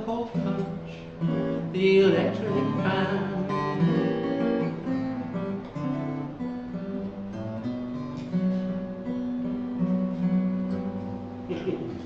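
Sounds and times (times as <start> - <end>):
acoustic guitar strummed and picked: 0.0 - 12.0.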